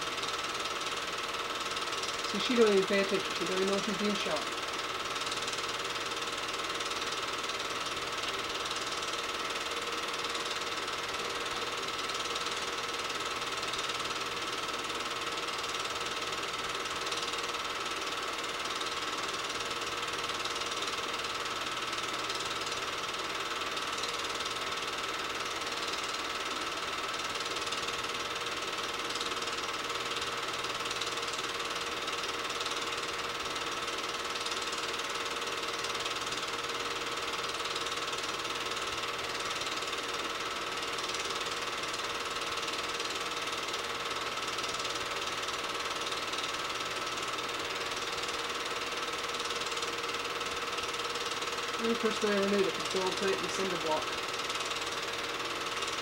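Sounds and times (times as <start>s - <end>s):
film projector clattering: 0.0s - 56.0s
steady mechanical whine: 0.0s - 56.0s.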